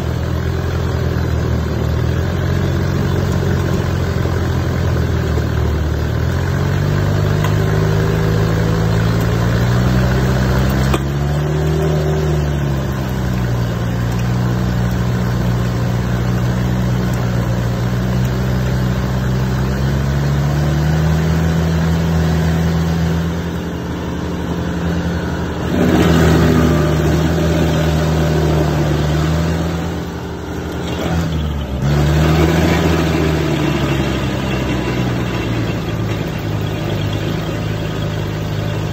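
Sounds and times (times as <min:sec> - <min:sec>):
cutter wheel grinding wood: 0:00.0 - 0:38.9
stump grinder engine running: 0:00.0 - 0:38.9.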